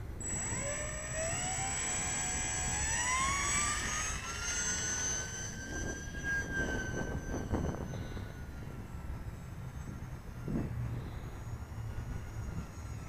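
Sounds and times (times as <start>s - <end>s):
electric motors and propellers whining: 0.0s - 13.0s
wind rumbling on microphone: 0.0s - 13.0s.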